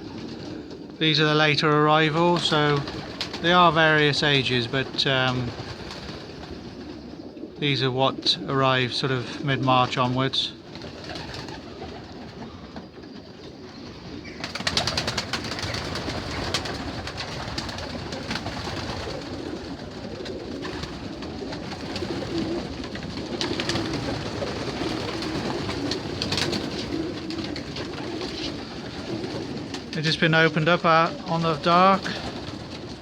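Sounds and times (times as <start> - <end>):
pigeons cooing: 0.0 - 33.0.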